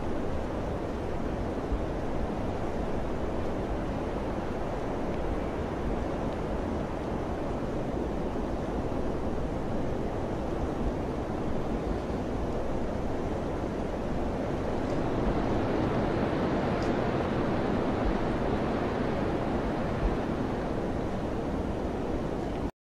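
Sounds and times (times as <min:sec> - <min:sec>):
wind blowing: 0:00.0 - 0:22.7.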